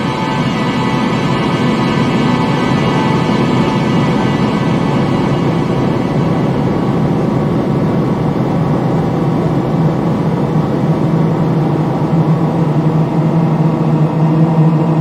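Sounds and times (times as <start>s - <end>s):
eerie low drone: 0.0s - 15.0s.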